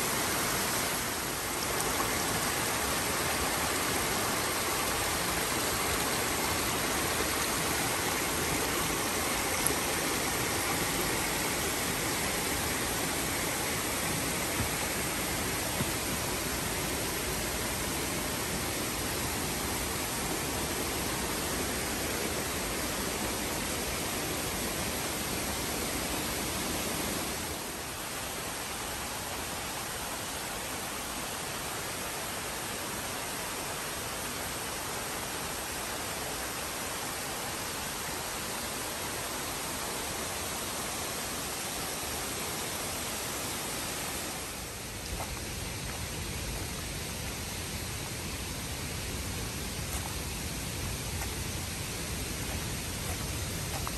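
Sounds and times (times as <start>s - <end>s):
water rushing over rocks: 0.0s - 53.9s.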